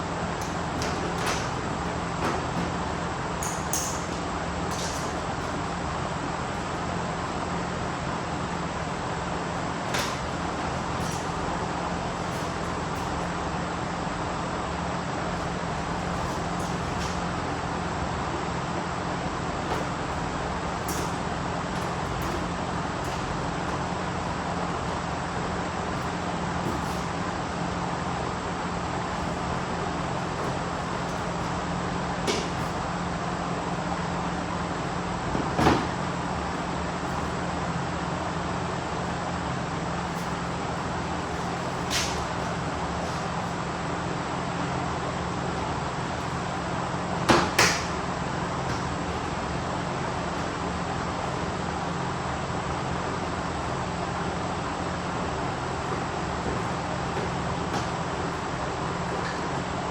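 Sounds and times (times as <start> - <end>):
steady hum and noise: 0.0 - 59.9.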